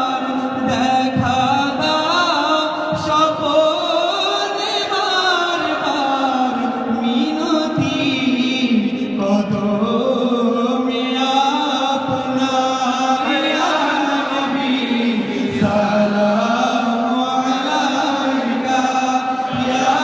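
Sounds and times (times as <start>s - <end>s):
man chanting into a microphone: 0.0s - 20.0s
men chanting: 0.0s - 20.0s.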